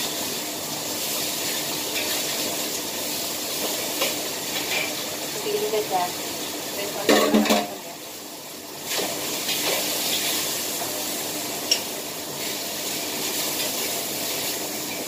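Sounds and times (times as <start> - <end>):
beef sizzling in a wok: 0.0 - 15.0.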